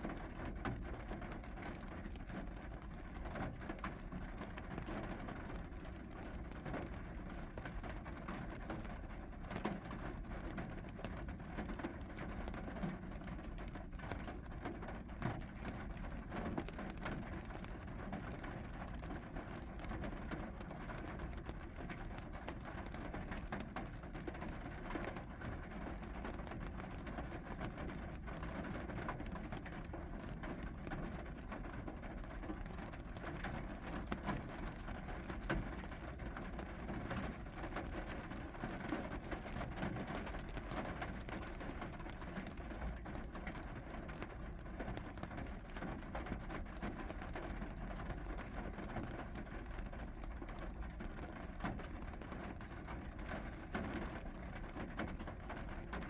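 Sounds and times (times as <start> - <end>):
raindrops ticking on surfaces: 0.0 - 56.0
steady rain falling: 0.0 - 56.0.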